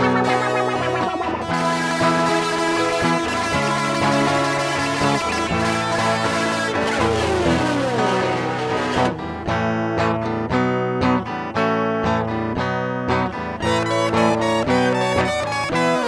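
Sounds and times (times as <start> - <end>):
band music with strummed guitar: 0.0 - 16.0.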